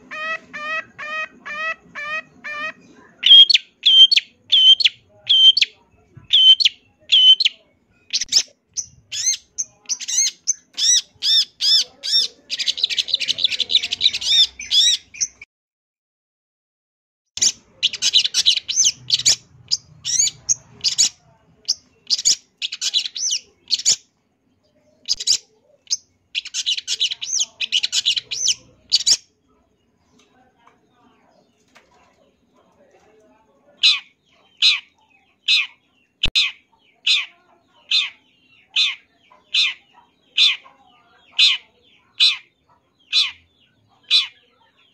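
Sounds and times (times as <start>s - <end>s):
bird singing with harsh chattering: 0.0s - 15.5s, 17.4s - 30.2s, 33.8s - 44.9s.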